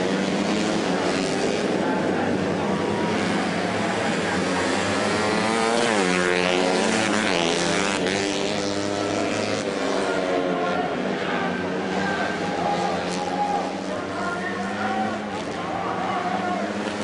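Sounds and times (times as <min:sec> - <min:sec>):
racing motorcycle engines passing: 0:00.0 - 0:17.0.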